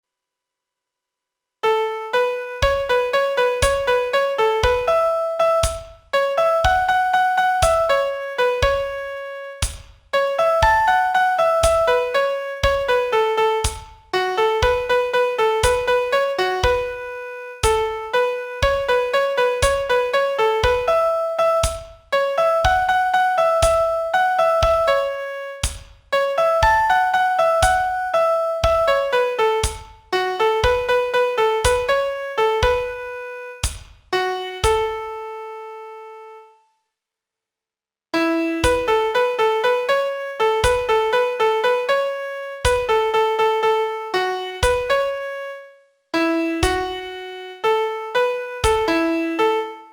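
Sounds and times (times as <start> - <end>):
solo piano melody: 1.6 - 36.6, 38.2 - 49.9.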